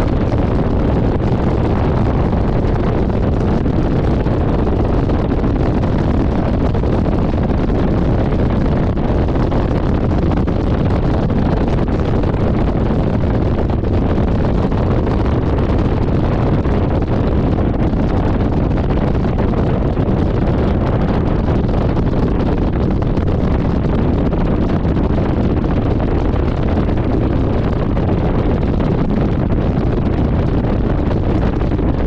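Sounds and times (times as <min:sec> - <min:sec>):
wind rush on microphone: 0:00.0 - 0:32.0.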